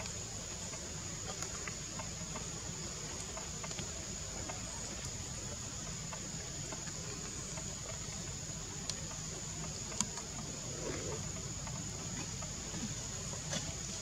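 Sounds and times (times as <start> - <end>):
faint ticks: 0.0 - 14.0.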